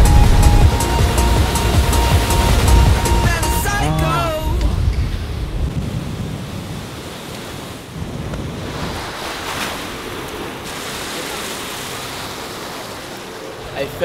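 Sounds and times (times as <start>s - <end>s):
wave breaking and rushing: 0.0s - 14.0s.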